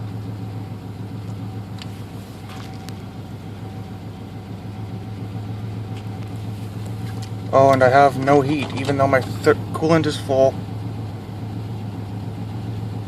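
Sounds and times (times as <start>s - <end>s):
engine idling roughly: 0.0s - 13.0s.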